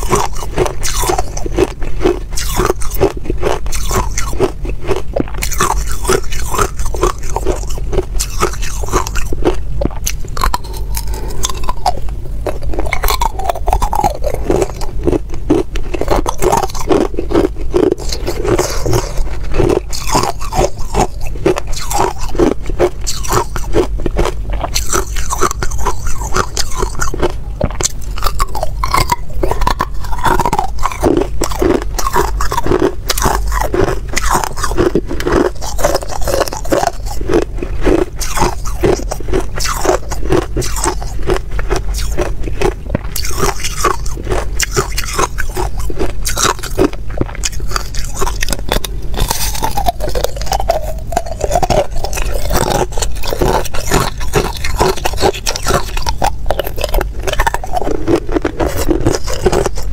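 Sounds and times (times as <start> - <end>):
ice cubes crunching: 0.0 - 59.9.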